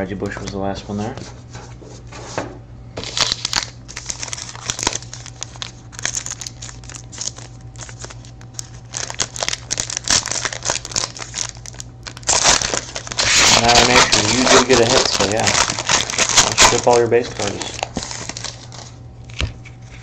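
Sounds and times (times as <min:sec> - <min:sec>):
foil wrapper crinkling and tearing: 0:03.0 - 0:20.0.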